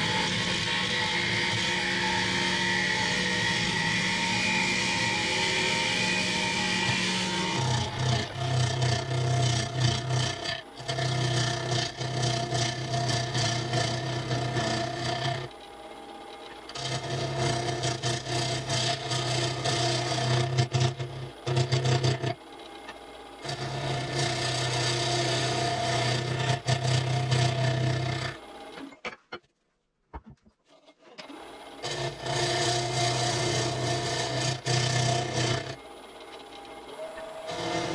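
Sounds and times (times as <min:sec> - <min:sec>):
tool scraping spinning wood: 0:00.0 - 0:15.5, 0:16.5 - 0:29.0, 0:30.7 - 0:36.4, 0:37.0 - 0:37.9
lathe motor humming: 0:00.0 - 0:28.8, 0:31.5 - 0:37.9.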